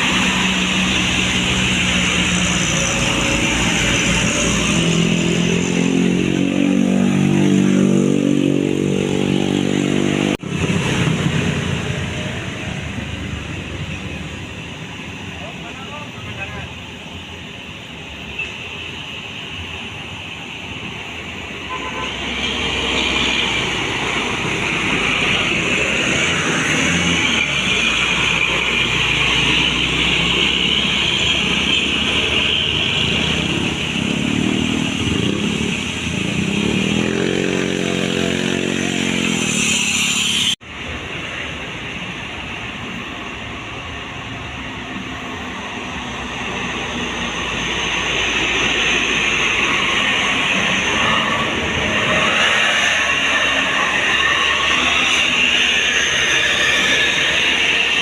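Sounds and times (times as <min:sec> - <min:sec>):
passing vehicle engines: 0:00.0 - 0:58.0.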